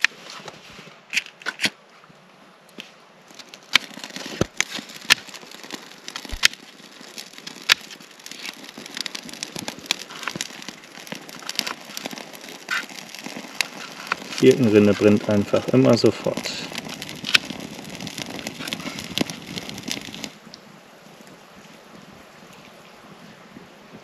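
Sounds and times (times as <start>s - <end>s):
bark crackling in fire: 2.5s - 24.0s.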